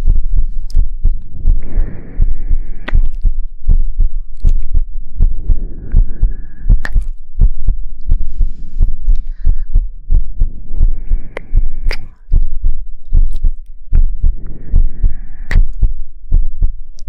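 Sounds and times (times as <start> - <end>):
muffled thumps patting microphone: 0.0 - 17.0.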